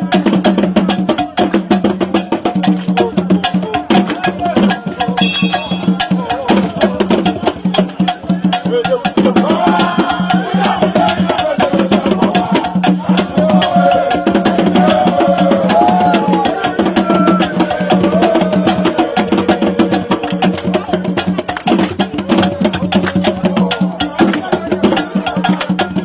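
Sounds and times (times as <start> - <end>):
fast clicking percussion beats: 0.0 - 26.0
voices singing: 0.0 - 26.0.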